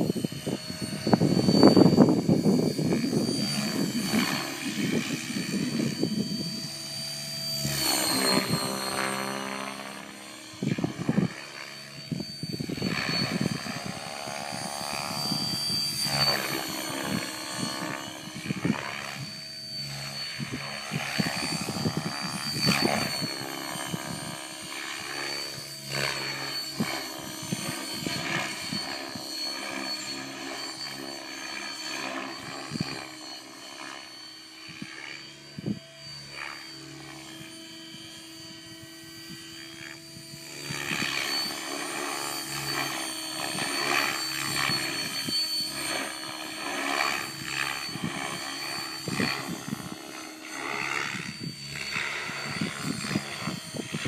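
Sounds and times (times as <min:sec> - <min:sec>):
helicopter motor whine: 0:00.0 - 0:54.0
rotor blades whooshing: 0:00.0 - 0:54.0.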